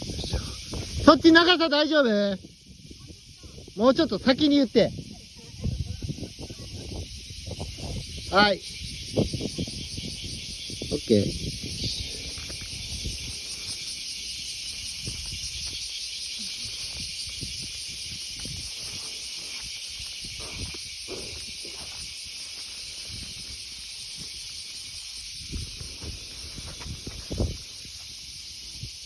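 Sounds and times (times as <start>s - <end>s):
insect chorus drone: 0.0s - 29.0s.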